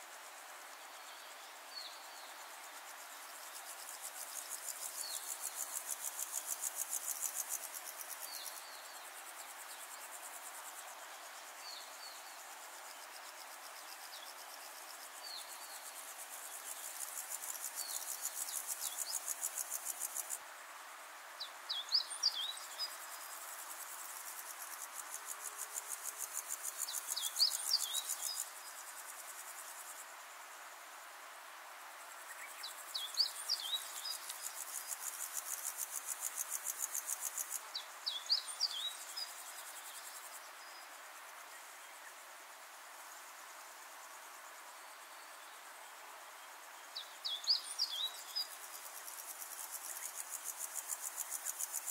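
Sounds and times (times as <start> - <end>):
insect chirring: 0.9 - 20.4, 21.5 - 30.2, 32.0 - 42.3, 46.9 - 51.9.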